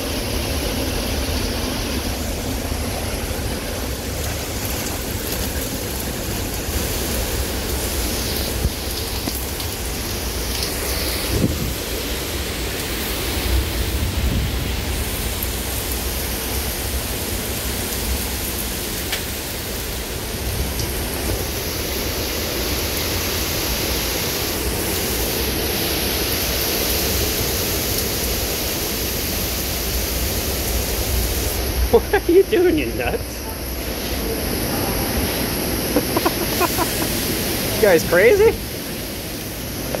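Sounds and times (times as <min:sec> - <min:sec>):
heavy driving rain: 0:00.0 - 0:40.0
high wind: 0:00.0 - 0:40.0.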